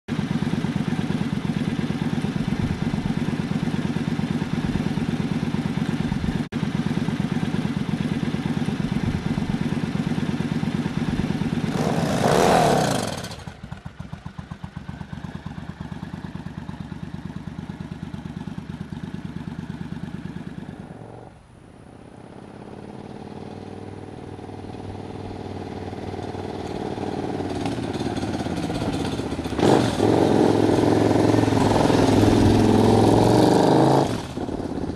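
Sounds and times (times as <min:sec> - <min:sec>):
motorcycle engine idling: 0:00.1 - 0:34.9
motorcycle riding closer: 0:00.1 - 0:34.9.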